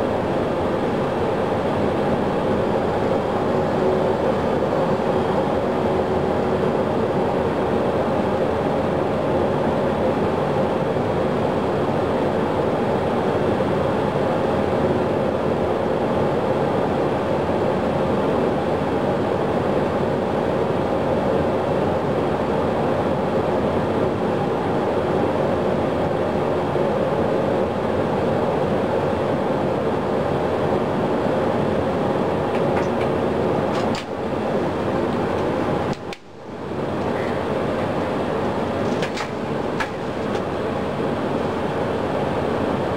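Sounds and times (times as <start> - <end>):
jet engine rumbling whine: 0.0 - 42.9.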